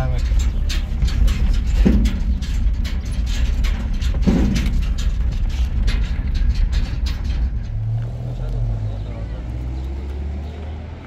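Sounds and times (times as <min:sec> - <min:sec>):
cab rattles and knocks: 0:00.0 - 0:11.0
truck engine and road rumble: 0:00.0 - 0:11.0.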